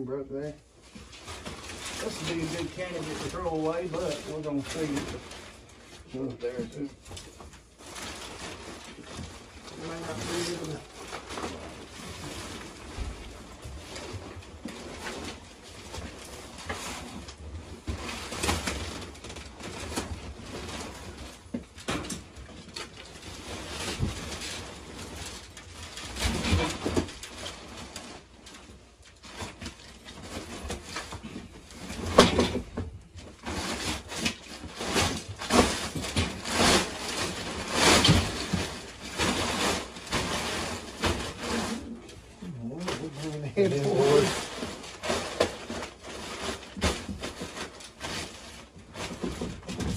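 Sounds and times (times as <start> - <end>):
fabric tearing and rustling: 1.1 - 49.9.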